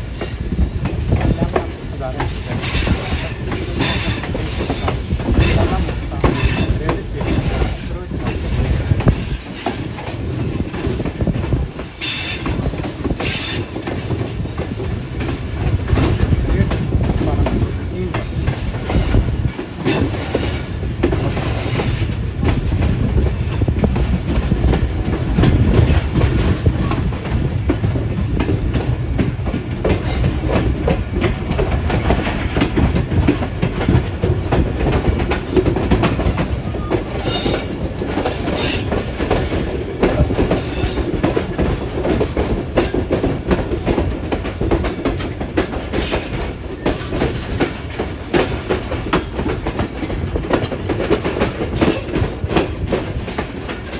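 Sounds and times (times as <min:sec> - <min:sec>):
train wheels rumbling: 0:00.0 - 0:53.9
wheels clacking over rail joints: 0:00.0 - 0:53.9.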